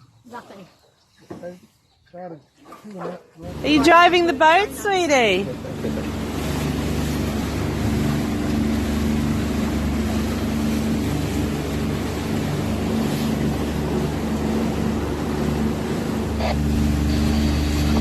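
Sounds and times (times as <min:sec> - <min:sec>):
water noise: 0:00.0 - 0:18.0
wind: 0:00.0 - 0:18.0
boat motor humming: 0:03.2 - 0:18.0.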